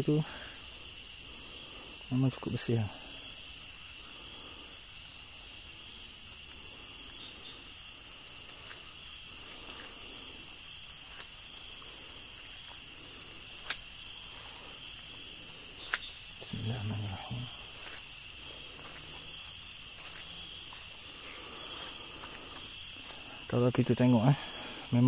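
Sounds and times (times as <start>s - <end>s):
night insects droning: 0.0s - 25.0s.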